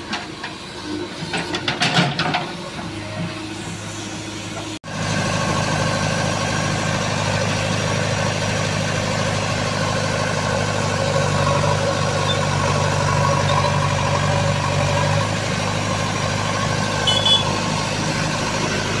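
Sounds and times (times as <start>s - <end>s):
diesel engine idling: 3.4s - 19.0s.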